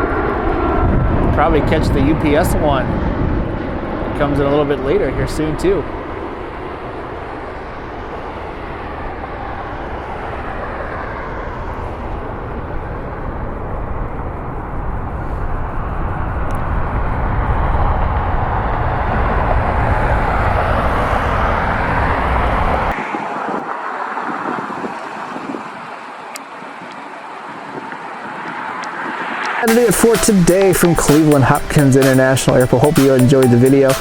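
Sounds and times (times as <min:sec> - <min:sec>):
jet airliner engine noise: 0:00.0 - 0:34.0.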